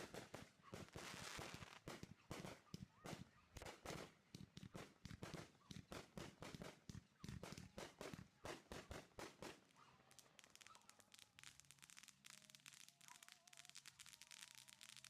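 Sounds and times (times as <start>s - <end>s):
fireworks crackling: 0.0s - 15.0s
fireworks popping: 0.0s - 15.0s.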